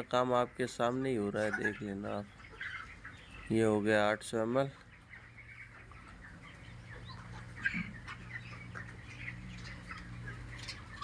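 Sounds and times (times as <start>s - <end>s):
chicks chirping: 0.0s - 11.0s.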